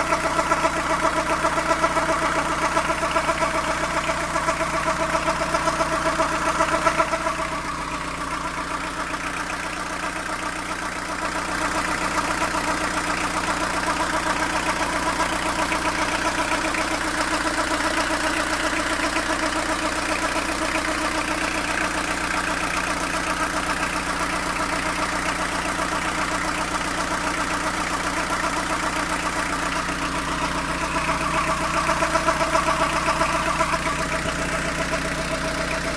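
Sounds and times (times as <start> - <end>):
extra engine tone: 0.0 - 35.9
van engine idling: 0.0 - 35.9.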